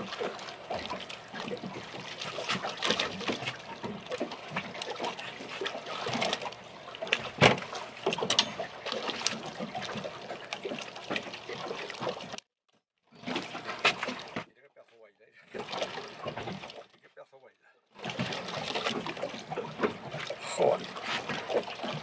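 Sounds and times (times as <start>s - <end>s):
water dripping and splashing: 0.0s - 12.4s, 15.5s - 17.0s, 18.0s - 22.0s.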